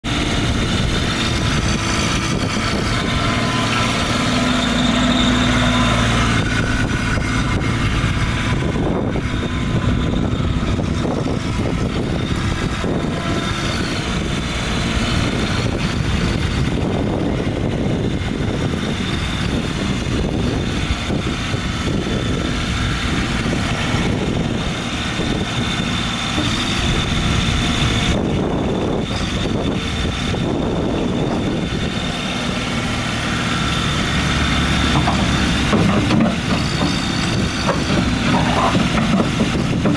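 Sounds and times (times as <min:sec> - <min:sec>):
mini skid steer engine running: 0:00.0 - 0:39.9.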